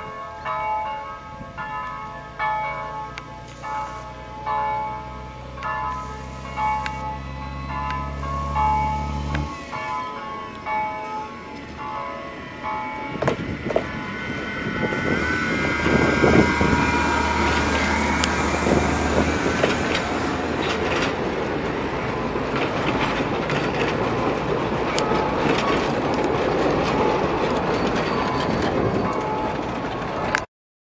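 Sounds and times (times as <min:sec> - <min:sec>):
diesel railcar engine humming: 0:00.0 - 0:30.4
train wheels clicking over rail joints: 0:01.6 - 0:30.4.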